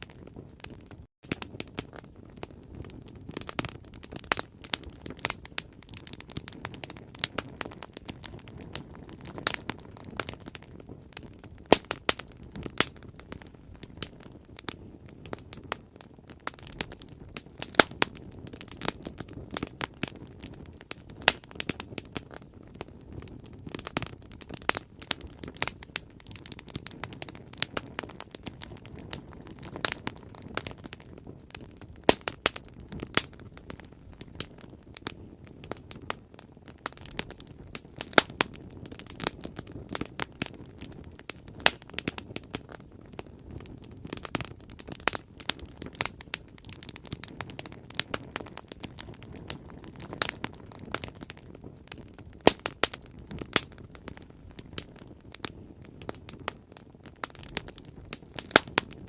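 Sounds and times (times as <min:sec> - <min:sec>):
burning wood crackling and popping: 0:00.0 - 0:59.0
low rumble of flames: 0:00.0 - 0:59.0.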